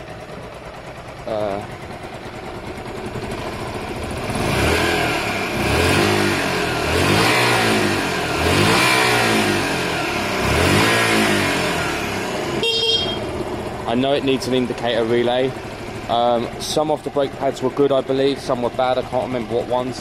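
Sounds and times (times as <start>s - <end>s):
motorcycle engine idling: 0.0s - 8.6s, 9.3s - 20.0s
motorcycle engine revving: 0.0s - 20.0s.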